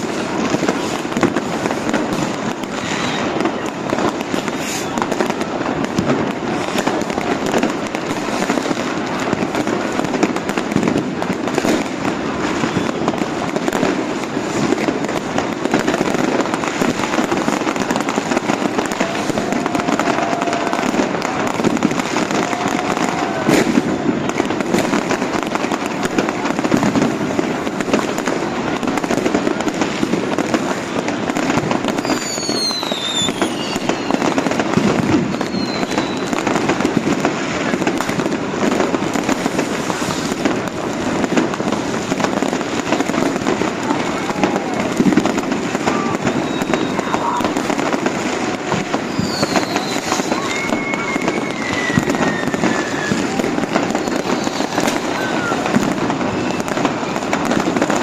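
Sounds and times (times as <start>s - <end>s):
fireworks crackling and banging: 0.0s - 58.0s
whistling rockets: 0.0s - 58.0s.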